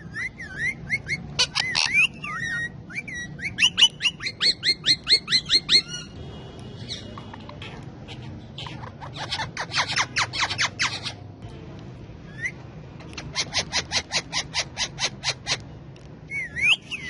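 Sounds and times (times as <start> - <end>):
parakeets chirping shrilly: 0.0 - 6.2, 6.8 - 11.4, 12.3 - 15.7, 16.3 - 17.0.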